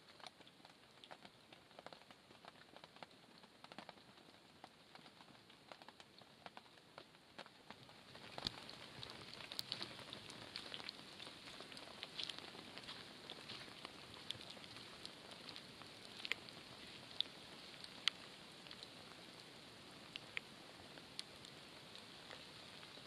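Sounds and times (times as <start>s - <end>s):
light rain hiss: 0.0s - 23.0s
raindrops ticking: 0.0s - 23.0s.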